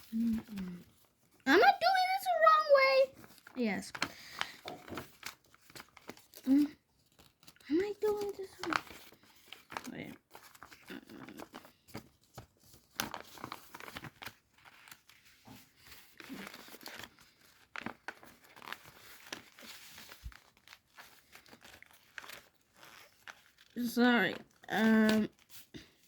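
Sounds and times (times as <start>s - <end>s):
paper rustling and crinkling: 0.0s - 26.0s.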